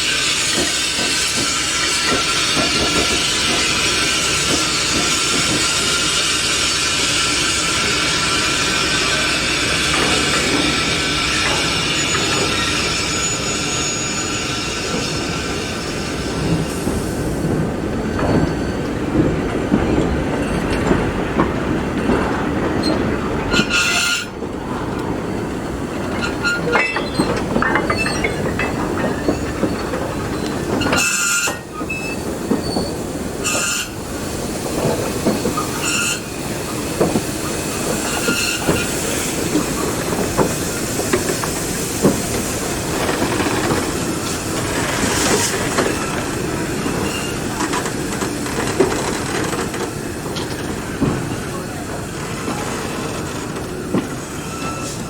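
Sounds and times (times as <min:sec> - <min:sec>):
high wheel squeals: 0:00.0 - 0:17.0, 0:26.1 - 0:34.1, 0:34.7 - 0:55.0
train wheels rumbling on rails: 0:00.0 - 0:55.0.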